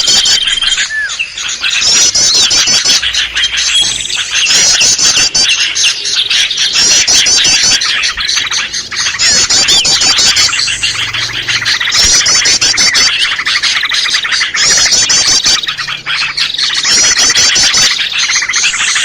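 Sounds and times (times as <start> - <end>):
chorus of songbirds: 0.0 - 19.0
high chattering bird trill: 0.0 - 19.0.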